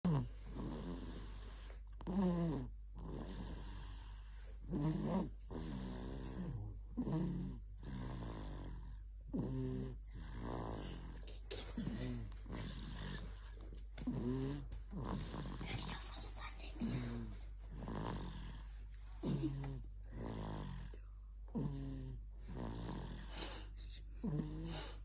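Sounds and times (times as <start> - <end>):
baby snoring: 0.1 - 13.4, 14.0 - 25.0.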